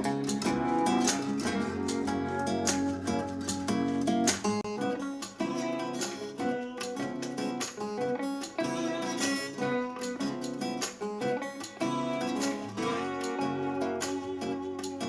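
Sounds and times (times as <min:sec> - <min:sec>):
acoustic guitar music through speaker: 0:00.0 - 0:15.0.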